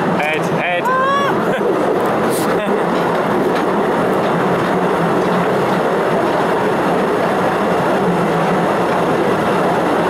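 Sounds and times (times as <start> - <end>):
train wheels rumbling and rattling: 0.0 - 10.0.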